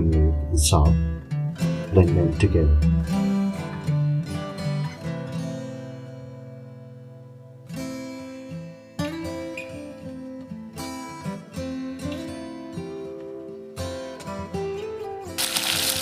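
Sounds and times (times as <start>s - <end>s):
plucked acoustic guitar melody: 0.0s - 16.0s.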